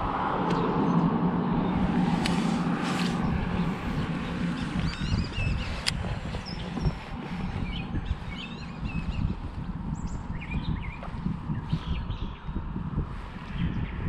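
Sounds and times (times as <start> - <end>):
loud low rumble: 0.0 - 14.0
birds chirping: 0.2 - 14.0.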